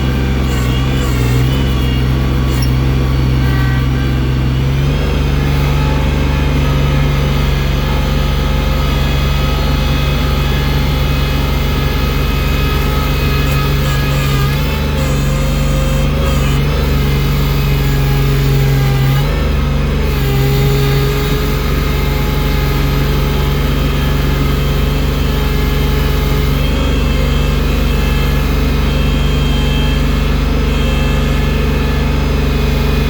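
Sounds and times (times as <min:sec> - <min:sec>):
snow-clearing machine engine running: 0:00.0 - 0:33.0.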